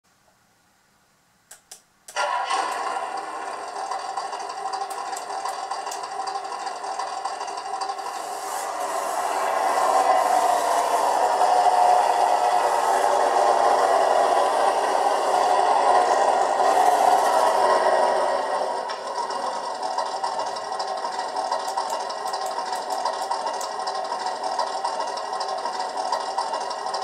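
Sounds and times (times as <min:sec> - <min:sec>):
simulated truck engine from small speaker: 0:02.1 - 0:27.0.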